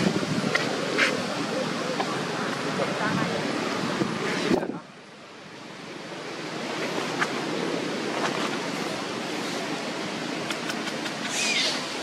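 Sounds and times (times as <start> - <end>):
wind across microphone: 0.0 - 12.0.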